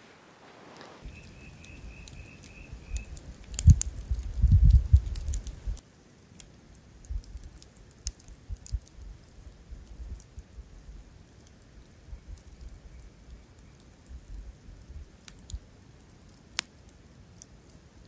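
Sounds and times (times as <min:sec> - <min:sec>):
campfire crackling and popping: 0:00.4 - 0:18.0.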